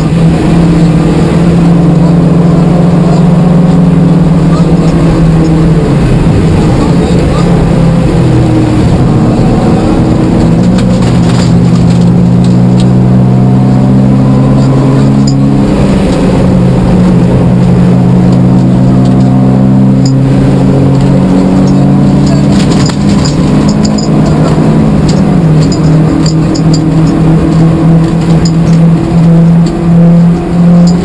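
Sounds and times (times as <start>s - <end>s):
rally car engine running hard: 0.0s - 31.0s.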